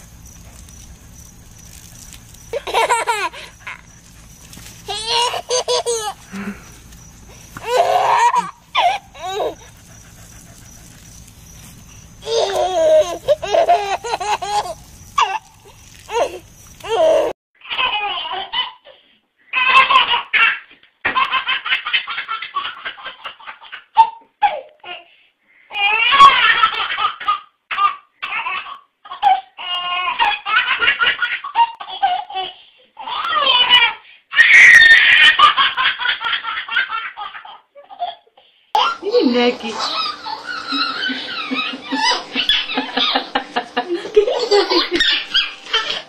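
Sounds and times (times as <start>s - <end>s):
baby laughing: 2.5s - 4.0s, 4.8s - 6.8s, 7.4s - 10.3s, 12.2s - 25.0s, 25.8s - 46.0s.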